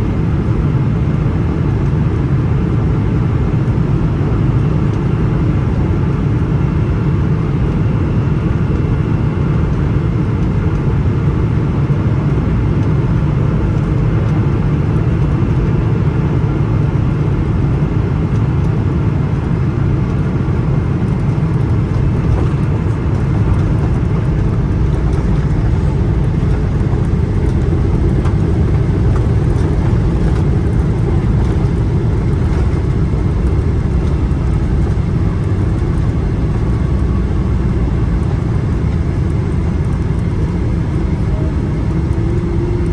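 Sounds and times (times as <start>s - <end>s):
airplane cabin rumble: 0.0s - 42.9s.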